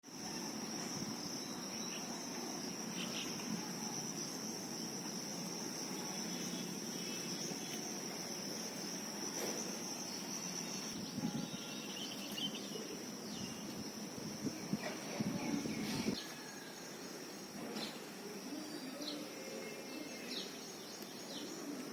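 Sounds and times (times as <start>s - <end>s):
high-pitched insect drone: 0.1s - 21.9s.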